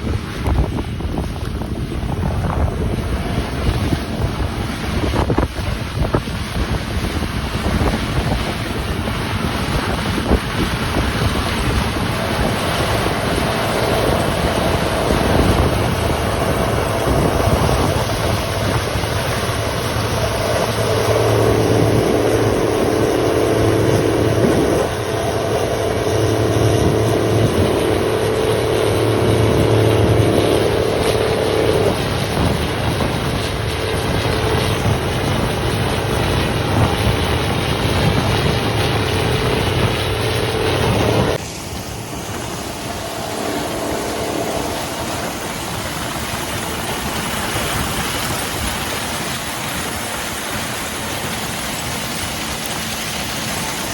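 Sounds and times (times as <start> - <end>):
combine harvester engine drone: 0.0 - 53.9
wind buffeting microphone: 0.0 - 53.9.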